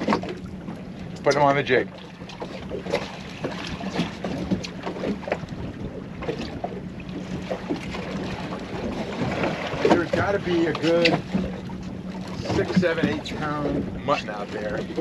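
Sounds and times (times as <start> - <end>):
water slapping against boat hull: 0.0 - 15.0
wind on microphone: 2.5 - 15.0.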